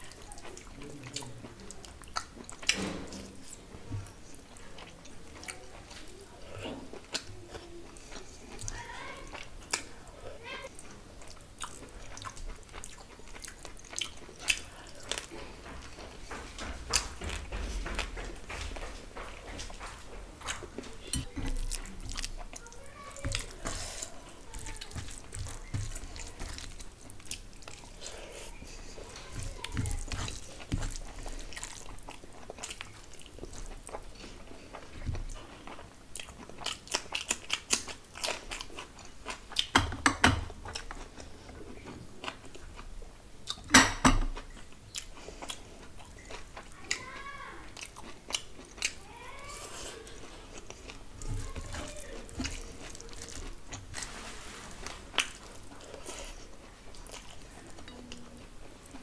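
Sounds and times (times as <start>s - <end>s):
chewing and crunching: 0.0s - 59.0s
fingers mixing rice and gravy: 0.0s - 59.0s.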